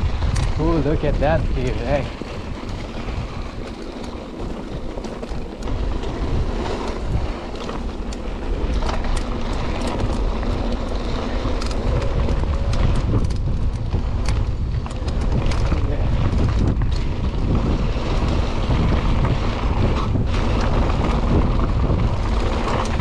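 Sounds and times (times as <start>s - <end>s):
bike rattling and clicking: 0.0s - 23.0s
tyres rumbling on dirt: 0.0s - 23.0s
wind rushing over microphone: 0.0s - 23.0s.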